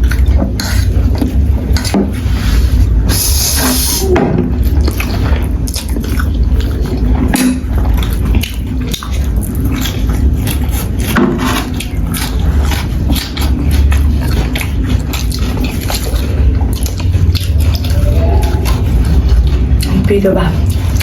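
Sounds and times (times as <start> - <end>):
low hum: 0.0 - 21.0
noodles slurped and chewed: 0.0 - 21.0.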